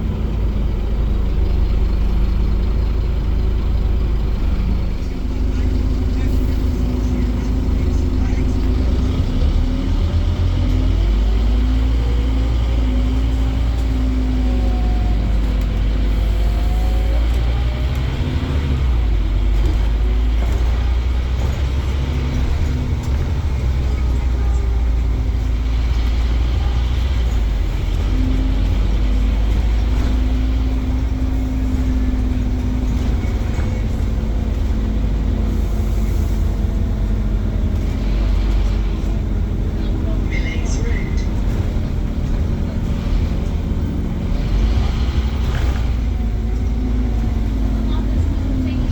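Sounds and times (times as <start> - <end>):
bus diesel engine rumbling: 0.0 - 48.9
drivetrain whine: 0.0 - 48.9.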